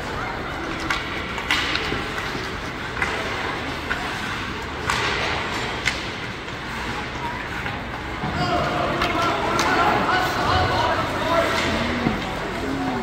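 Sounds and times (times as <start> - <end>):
crowd chatter and rink noise: 0.0 - 13.0
hockey sticks and puck clacking: 0.0 - 13.0.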